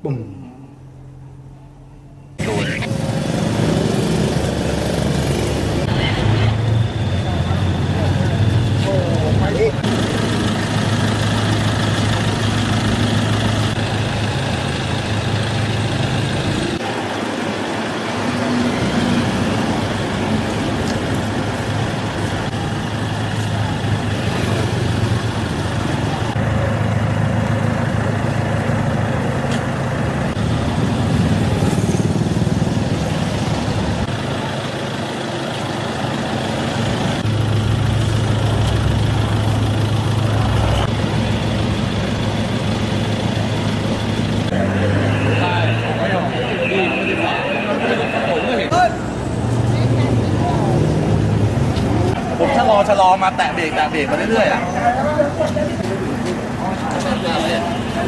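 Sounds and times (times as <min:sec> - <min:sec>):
road traffic passing: 0:00.0 - 0:58.0
vehicle engine idling: 0:00.7 - 0:58.0.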